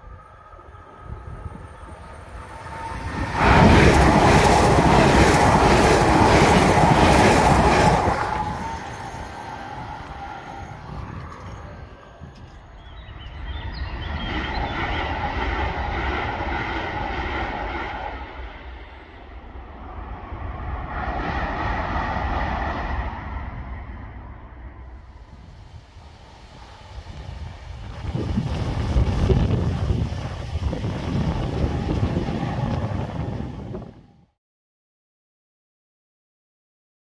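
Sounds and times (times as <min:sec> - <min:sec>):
train wheels rushing on rail: 0:00.0 - 0:34.1
distant passing train noise: 0:00.0 - 0:34.4.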